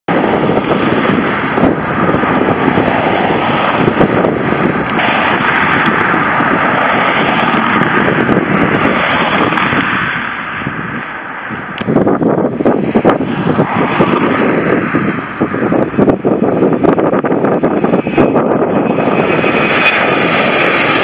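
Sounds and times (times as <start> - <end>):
jet engines roaring at takeoff: 0.1 - 21.0.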